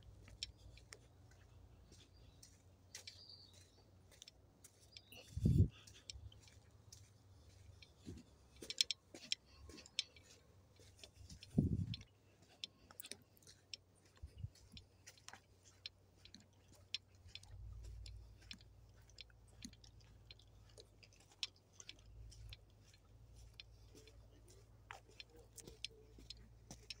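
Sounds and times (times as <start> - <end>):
footsteps crunching on dirt: 0.0 - 27.0.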